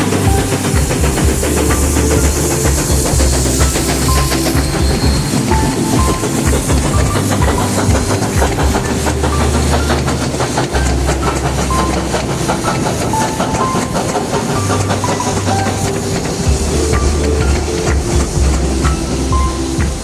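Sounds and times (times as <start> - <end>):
steam hissing: 0.0 - 20.0
train wheels clattering on rails: 0.0 - 20.0.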